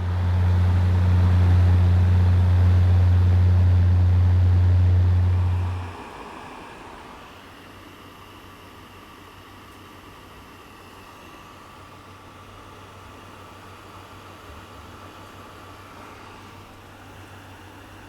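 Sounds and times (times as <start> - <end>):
electric fan running: 0.0 - 18.0
hiss with faint whine: 0.0 - 18.0.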